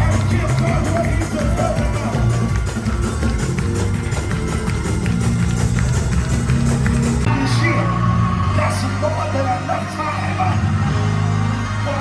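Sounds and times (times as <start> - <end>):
music with bass line: 0.0 - 12.0.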